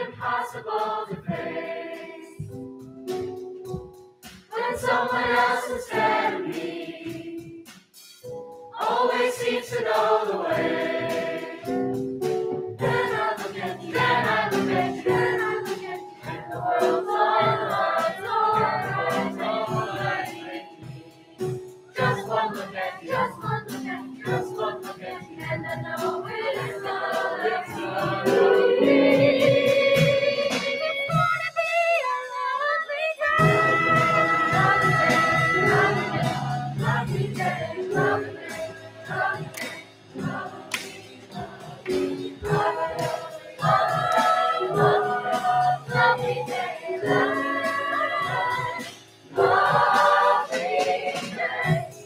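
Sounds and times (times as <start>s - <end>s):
choir singing: 0.0s - 2.5s, 4.5s - 7.7s, 8.8s - 31.2s, 33.0s - 52.0s.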